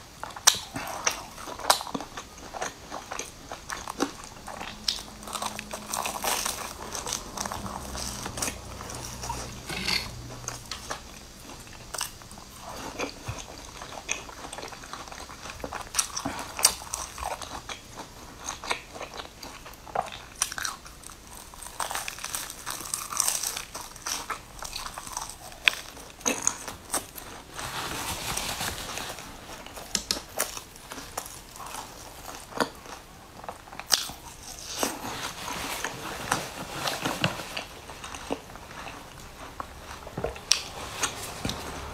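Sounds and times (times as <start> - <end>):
crunching fried bread pastries: 0.0 - 41.9.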